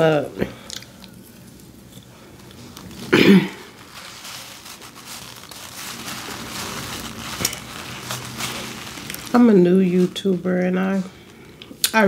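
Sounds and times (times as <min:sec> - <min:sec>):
paper napkin crinkling: 0:01.2 - 0:11.6.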